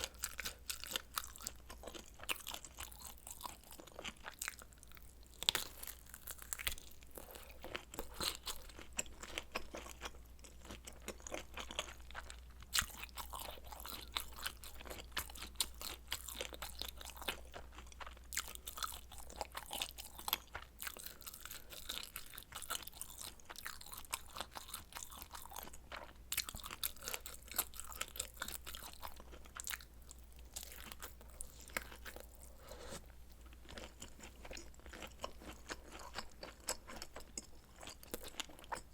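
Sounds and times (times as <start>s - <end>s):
person chewing and biting food: 0.0s - 38.9s.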